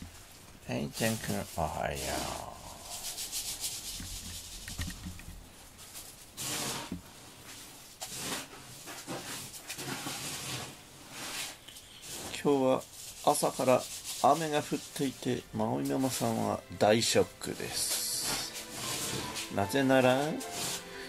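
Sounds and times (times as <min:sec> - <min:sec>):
hand stroking cat fur: 0:01.0 - 0:16.5, 0:17.4 - 0:21.0.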